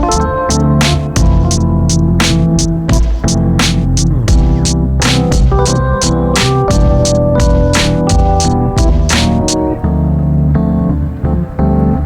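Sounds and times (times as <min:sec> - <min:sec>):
music with steady beat: 0:00.0 - 0:09.8
strong bass line: 0:00.0 - 0:10.5
held keyboard chords: 0:00.0 - 0:12.0.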